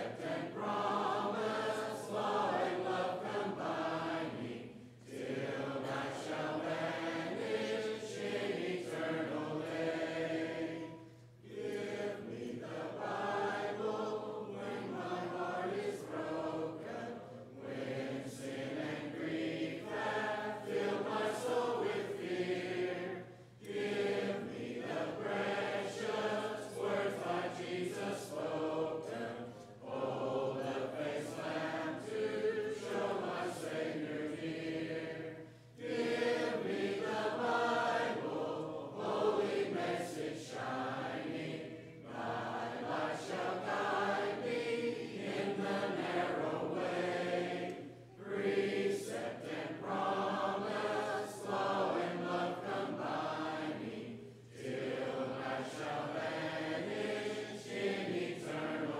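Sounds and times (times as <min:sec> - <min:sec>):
congregation singing a hymn: 0:00.0 - 0:58.9.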